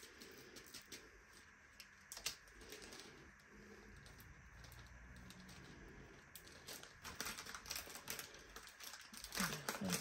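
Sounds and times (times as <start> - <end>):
plastic bags rustling: 0.0 - 10.0.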